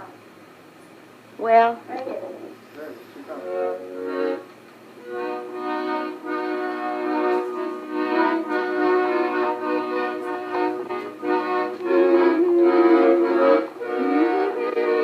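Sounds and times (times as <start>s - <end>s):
accordion playing chords: 2.8s - 15.0s.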